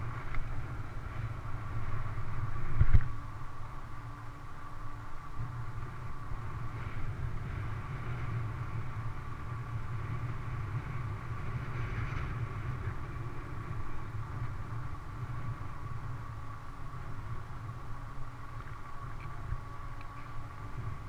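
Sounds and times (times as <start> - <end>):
wind buffeting microphone: 0.0 - 3.6, 4.9 - 21.0
bike tyres rolling on asphalt: 0.0 - 21.0
steady mid-pitched hum: 0.0 - 21.0.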